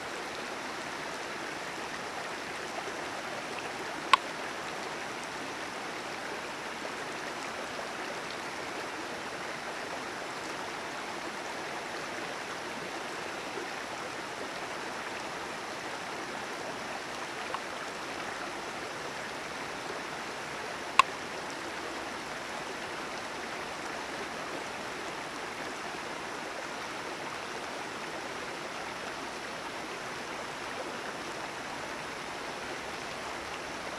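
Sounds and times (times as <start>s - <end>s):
creek water rushing: 0.0s - 33.9s.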